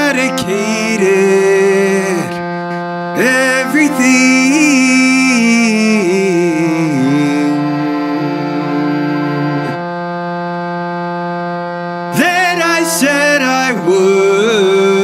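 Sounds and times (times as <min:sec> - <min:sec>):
person singing with vibrato: 0:00.0 - 0:10.3, 0:11.8 - 0:15.0
electric organ chord: 0:00.0 - 0:15.0.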